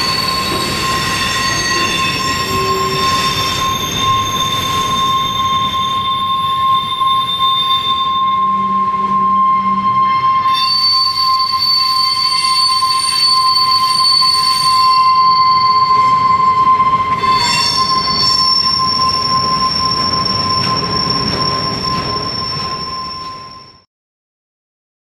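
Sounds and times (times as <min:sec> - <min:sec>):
rumble of train wheels: 0:00.0 - 0:23.8
train wheel squeal: 0:00.0 - 0:23.9.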